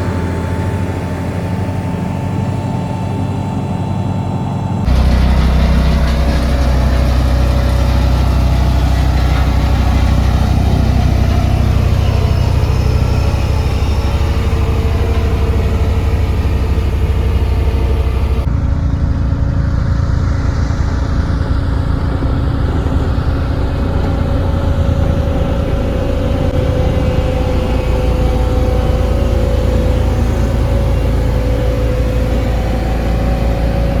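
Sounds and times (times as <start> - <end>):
road roller diesel engine droning: 0.0 - 34.0.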